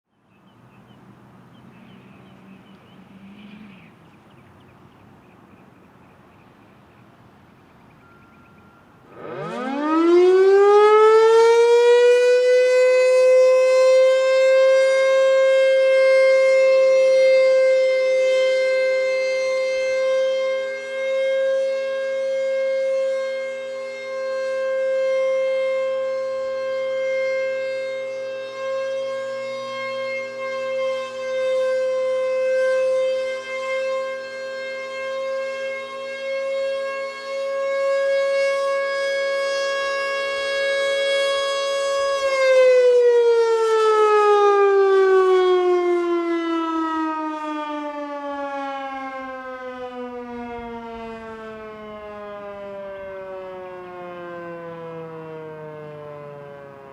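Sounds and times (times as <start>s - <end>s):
air raid siren winding up: 8.0s - 56.9s.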